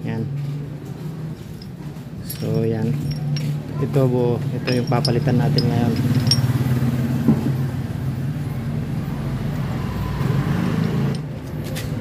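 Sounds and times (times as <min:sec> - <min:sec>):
engine humming: 0:01.0 - 0:12.0.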